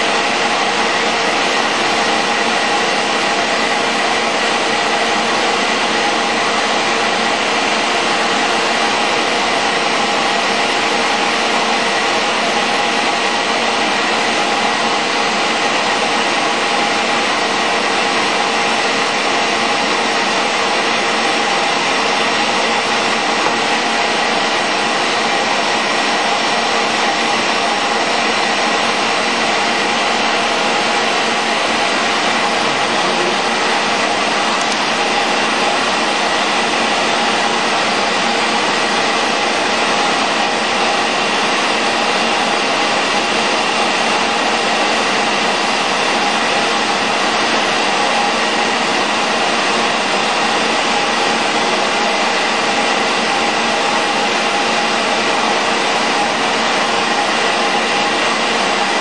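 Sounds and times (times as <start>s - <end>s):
machine drone with motor whine: 0.0s - 59.0s.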